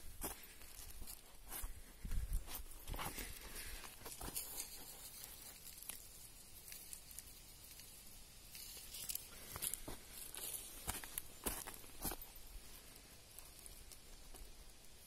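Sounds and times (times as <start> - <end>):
leaves and twigs crackling: 0.0 - 15.0.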